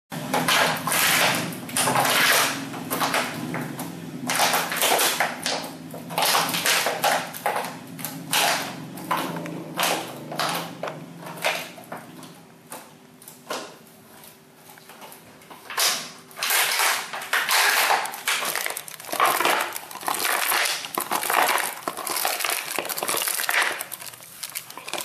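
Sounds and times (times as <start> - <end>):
dog chewing plastic bottle: 0.2 - 25.0.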